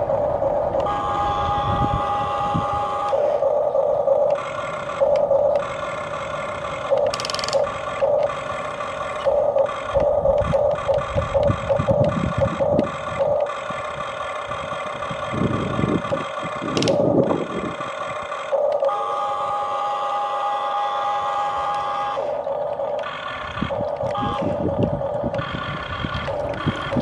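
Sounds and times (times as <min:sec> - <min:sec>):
toy excavator motors whining: 0:00.0 - 0:27.0.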